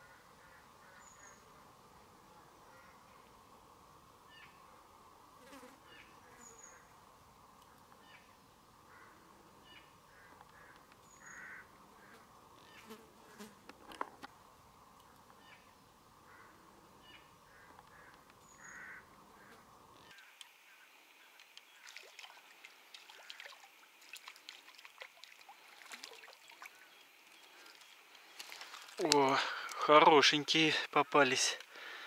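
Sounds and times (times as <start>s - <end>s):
faint insect hum: 0.0s - 32.0s.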